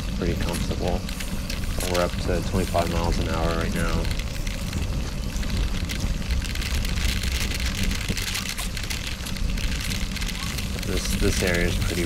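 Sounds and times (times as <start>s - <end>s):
bicycle tyres rolling on gravel: 0.0s - 12.0s
wind rushing over microphone: 0.0s - 12.0s.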